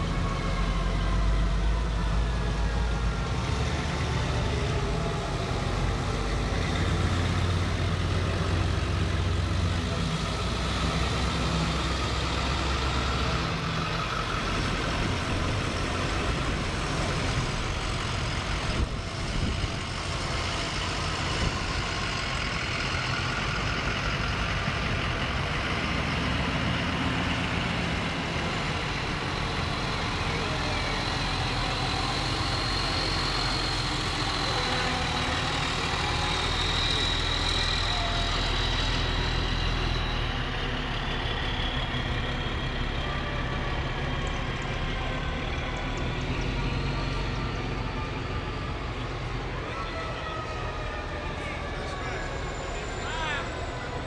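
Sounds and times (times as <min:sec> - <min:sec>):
fire truck engines rumbling: 0:00.0 - 0:54.0.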